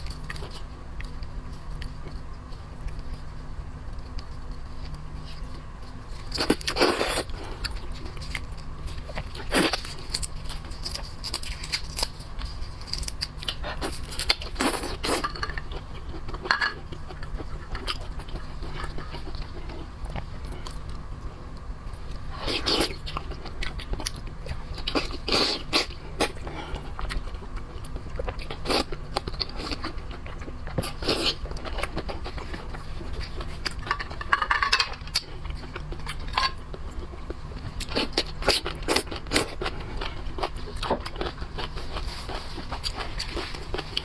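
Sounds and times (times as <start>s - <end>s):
biting and chewing: 3.9s - 44.0s.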